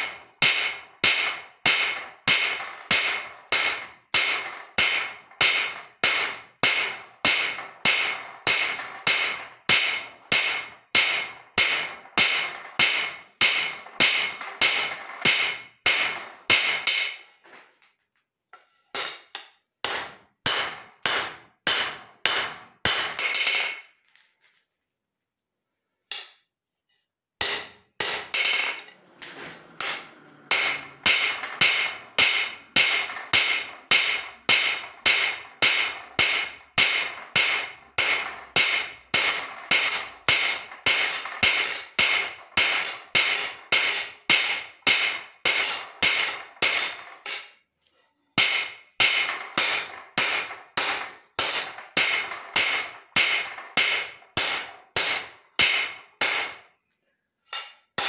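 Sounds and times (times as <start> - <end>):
hammer striking steel on anvil: 0.0 - 17.3, 18.9 - 23.9, 27.4 - 47.6, 48.4 - 56.7, 57.5 - 58.0.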